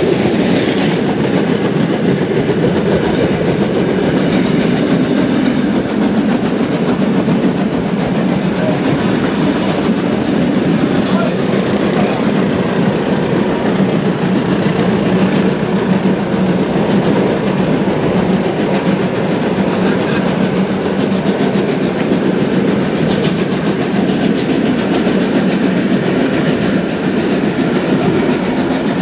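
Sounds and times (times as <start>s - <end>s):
clickety-clack of wheels: 0.0s - 29.0s
trains rolling rumble: 0.0s - 29.0s.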